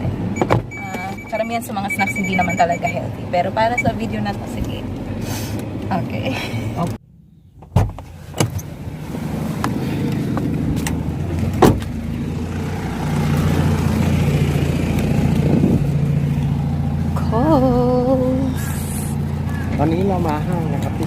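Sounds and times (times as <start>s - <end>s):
car engine rumble from inside: 0.0s - 21.0s.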